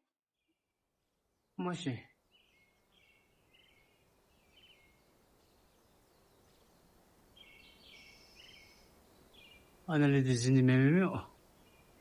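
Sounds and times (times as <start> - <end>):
faint steady hiss: 0.9 - 12.0
birds chirping: 1.5 - 12.0.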